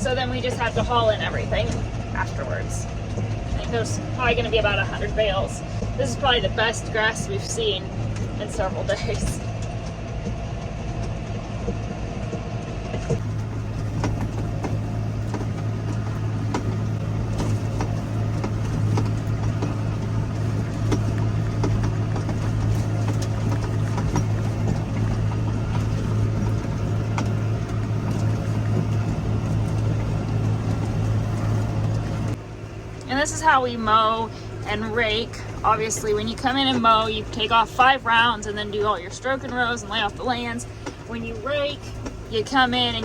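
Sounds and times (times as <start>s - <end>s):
machinery clicks and rattles: 0.0s - 43.0s
tractor engine running: 0.0s - 43.0s.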